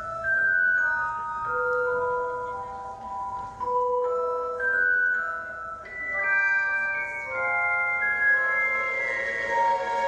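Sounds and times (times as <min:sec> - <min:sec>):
bell-like melody: 0:00.0 - 0:10.0.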